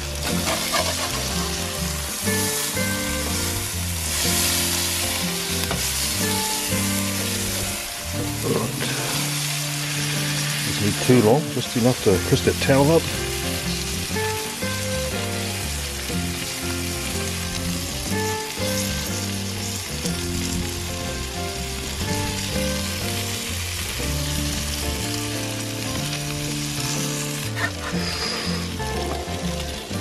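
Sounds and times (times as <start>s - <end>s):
background music with bass: 0.0s - 30.0s
fish and eggs sizzling: 0.0s - 30.0s.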